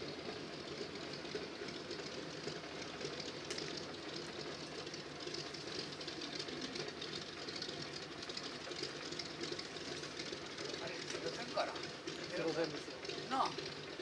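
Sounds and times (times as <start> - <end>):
aircraft radial engine idling: 0.0 - 14.0.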